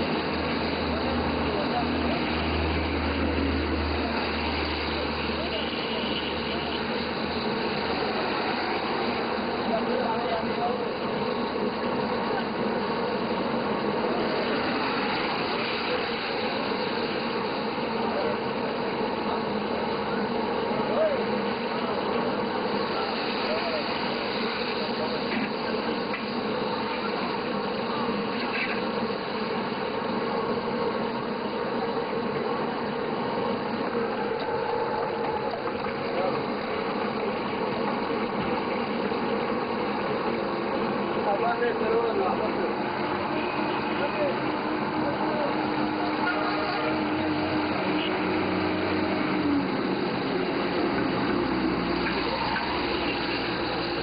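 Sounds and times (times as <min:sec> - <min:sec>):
fish deep-frying in oil: 0:00.0 - 0:54.0.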